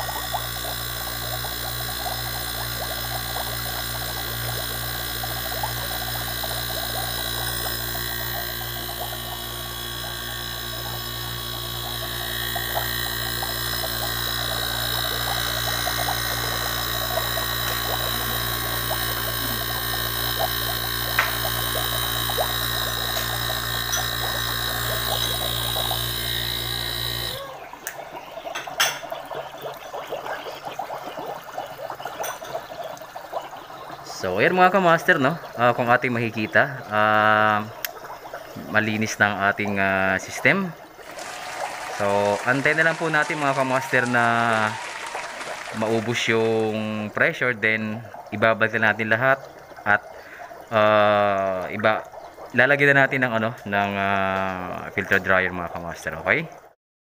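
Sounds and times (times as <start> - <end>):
machine hum: 0.0 - 40.1, 40.9 - 48.4
gas bubbling through water: 0.0 - 56.7.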